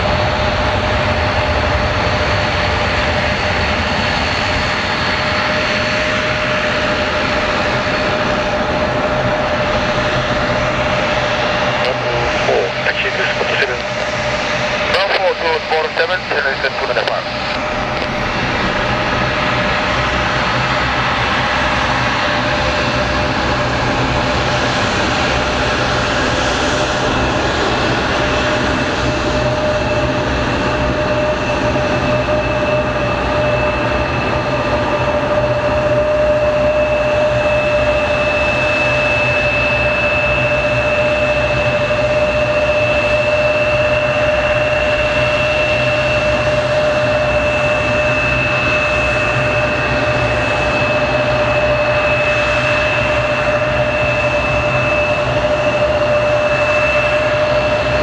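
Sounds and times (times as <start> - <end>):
jet engines roaring with whine: 0.0 - 58.0.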